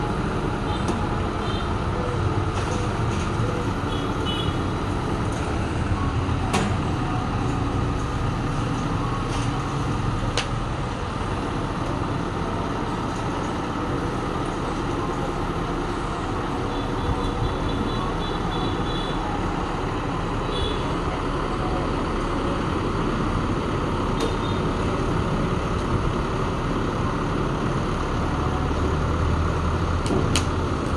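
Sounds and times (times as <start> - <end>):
crane truck engine running: 0.0 - 30.9.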